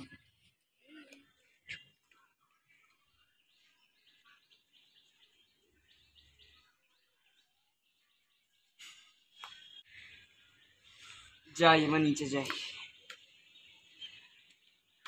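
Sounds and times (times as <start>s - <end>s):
soft high bird chirps: 0.0s - 15.0s.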